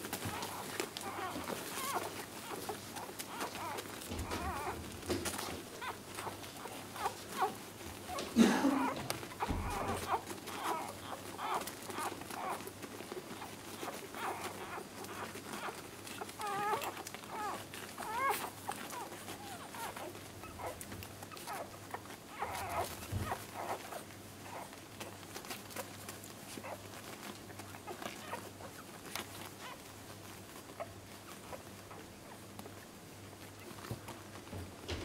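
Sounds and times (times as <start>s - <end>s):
puppies squeaking and whimpering: 0.0s - 35.0s
puppy crying: 0.1s - 35.0s.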